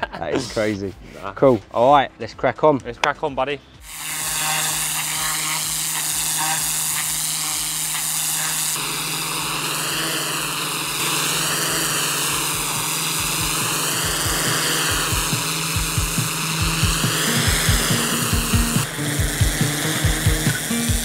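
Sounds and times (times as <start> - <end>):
pressure washer jet hissing: 3.8 - 21.0.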